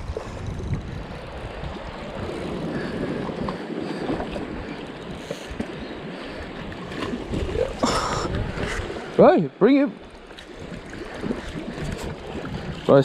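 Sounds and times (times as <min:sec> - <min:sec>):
wind buffeting microphone: 0:00.0 - 0:09.2, 0:10.3 - 0:13.0.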